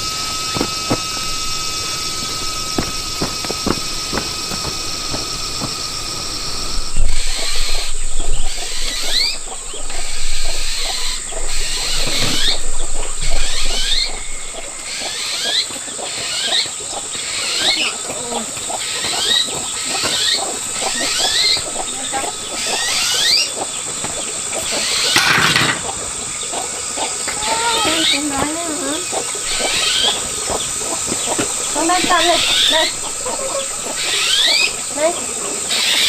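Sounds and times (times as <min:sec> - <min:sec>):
small animals squeaking: 0:00.0 - 0:36.0
steady high hiss: 0:00.0 - 0:36.0.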